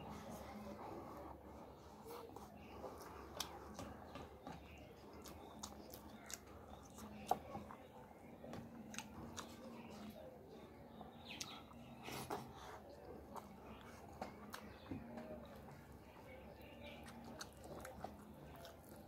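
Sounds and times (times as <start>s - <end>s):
person chewing food: 2.1s - 10.3s, 11.2s - 19.0s.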